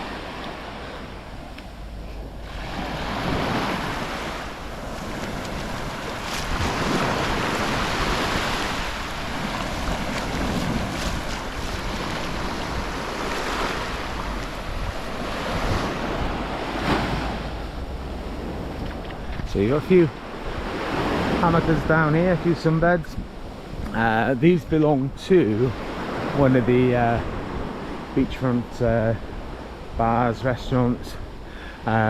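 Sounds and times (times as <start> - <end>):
sea waves breaking on shore: 0.0 - 32.0
wind rumbling on microphone: 0.0 - 32.0.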